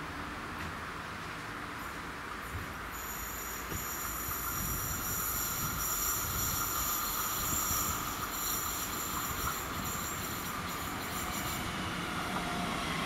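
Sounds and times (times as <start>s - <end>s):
train wheels rumbling on track: 0.0s - 13.0s
train high whine: 1.8s - 13.0s.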